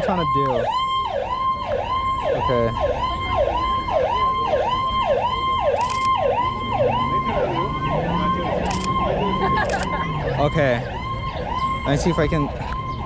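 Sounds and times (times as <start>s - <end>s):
electronic siren sweeping: 0.0s - 13.0s.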